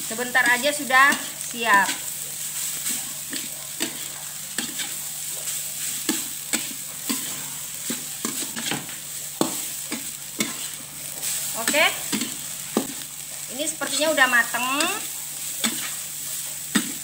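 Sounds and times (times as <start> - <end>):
rice sizzling in a wok: 0.0 - 17.0
spatula scraping a wok: 0.0 - 17.0.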